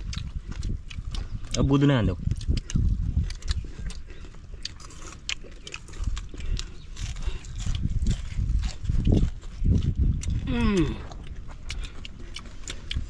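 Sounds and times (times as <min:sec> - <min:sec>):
low rumble: 0:00.0 - 0:13.0
people chewing fish: 0:00.0 - 0:13.0.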